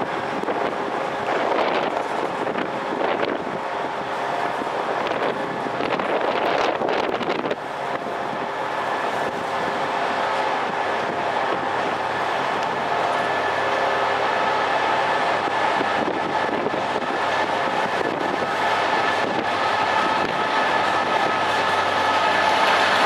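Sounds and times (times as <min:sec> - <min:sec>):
diesel engine tones: 0:00.0 - 0:23.0
train coaches rolling past: 0:00.0 - 0:23.0.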